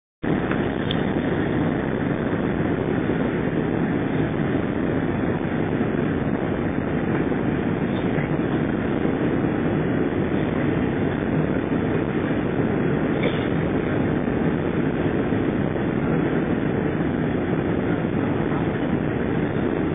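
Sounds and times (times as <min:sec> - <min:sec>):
airliner cabin engine noise: 0:00.2 - 0:19.9.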